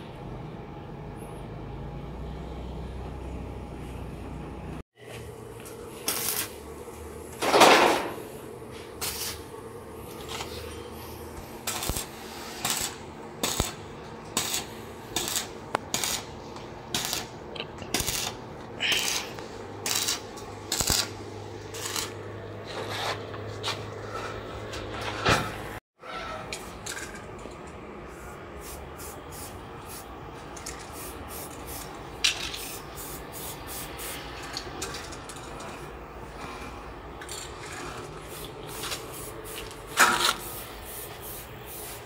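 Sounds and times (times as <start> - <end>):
steady low hum: 0.0 - 25.8, 26.6 - 42.0.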